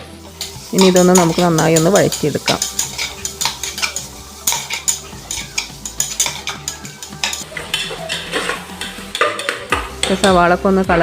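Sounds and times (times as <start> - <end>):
onions sizzling in oil: 0.0 - 11.0
spatula scraping a pot: 0.4 - 9.7.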